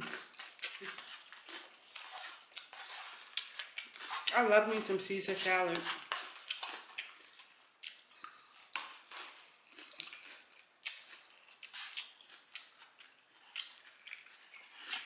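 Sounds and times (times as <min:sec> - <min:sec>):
chewing crisp salad: 0:00.0 - 0:04.8, 0:05.7 - 0:15.0.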